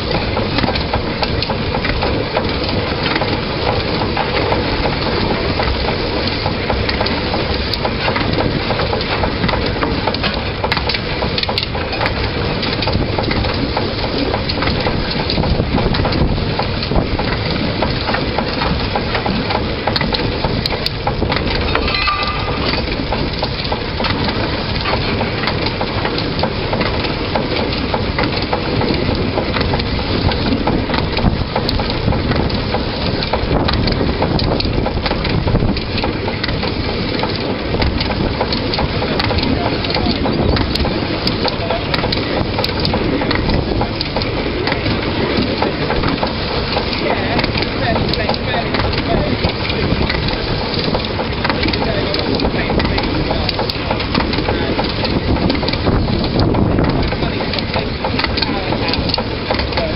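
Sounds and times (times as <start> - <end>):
locomotive wheels clattering on rails: 0.0 - 59.9.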